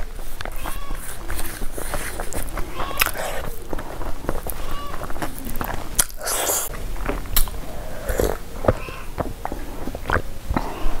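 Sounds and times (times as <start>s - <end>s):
mouth clicks: 0.0s - 11.0s
sipping and swallowing water: 0.0s - 11.0s
wet chewing: 0.0s - 11.0s.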